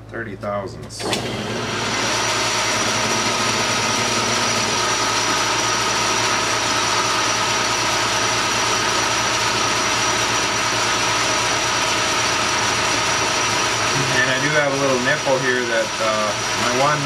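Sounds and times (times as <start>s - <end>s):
metal lathe whining: 1.0s - 17.0s.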